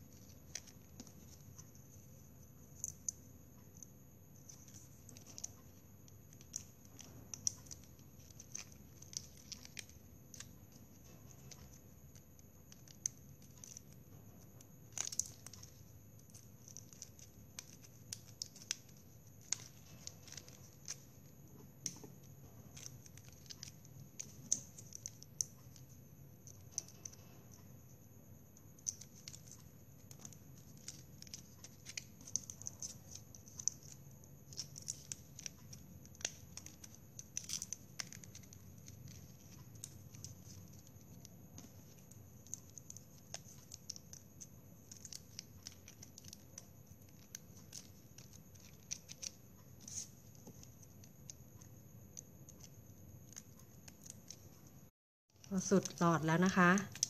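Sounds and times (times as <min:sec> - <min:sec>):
plastic straws clicking and rustling: 0:00.0 - 0:27.6, 0:28.5 - 0:57.0.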